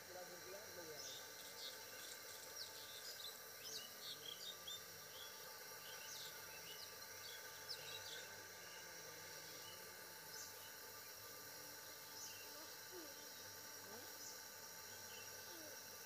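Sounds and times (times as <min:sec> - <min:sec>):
steady background hiss: 0:00.0 - 0:16.0
small birds chirping: 0:01.0 - 0:10.9, 0:12.0 - 0:15.8.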